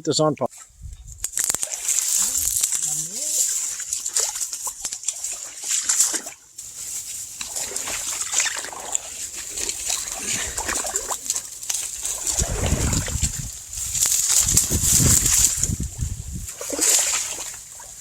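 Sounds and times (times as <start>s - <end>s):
water sloshing from wading: 1.3s - 18.0s.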